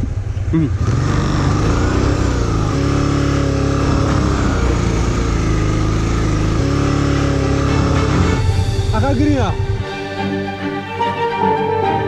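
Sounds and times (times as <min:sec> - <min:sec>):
motorcycle engine at raised revs: 0:00.0 - 0:09.8.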